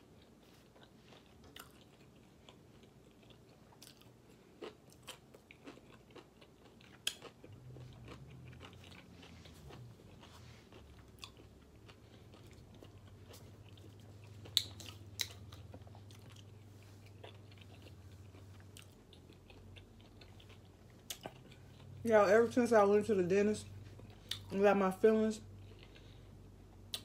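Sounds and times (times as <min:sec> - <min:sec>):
close chewing: 0:00.0 - 0:22.0, 0:25.5 - 0:27.0.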